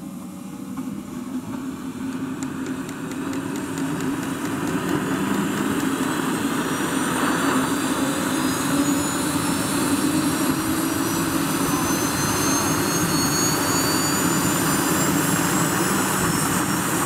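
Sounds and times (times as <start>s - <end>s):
jet turbine spooling up: 0.0s - 17.0s.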